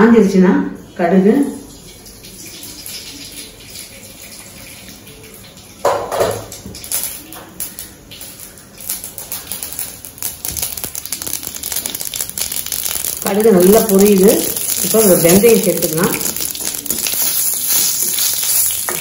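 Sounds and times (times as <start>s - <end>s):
seeds sizzling and popping in oil: 2.1s - 19.0s.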